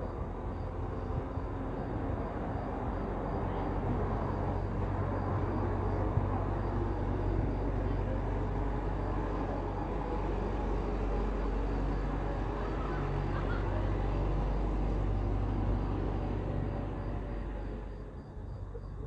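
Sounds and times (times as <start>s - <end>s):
car engine hum: 0.0s - 18.6s.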